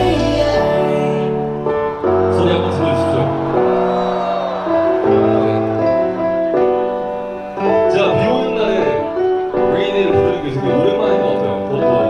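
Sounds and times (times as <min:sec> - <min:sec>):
piano backing track: 0:00.0 - 0:12.0.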